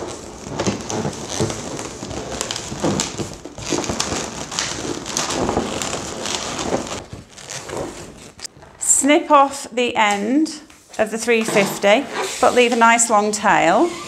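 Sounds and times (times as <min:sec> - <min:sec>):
balloons rubbing and crackling: 0:00.0 - 0:08.6, 0:11.3 - 0:14.0.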